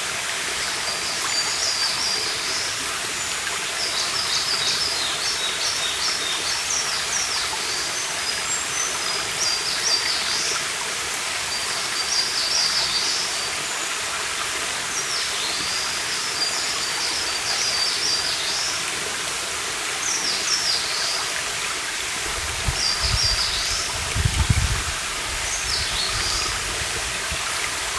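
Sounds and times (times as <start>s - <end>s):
stream running: 0.0s - 27.9s
small birds singing: 0.6s - 27.9s.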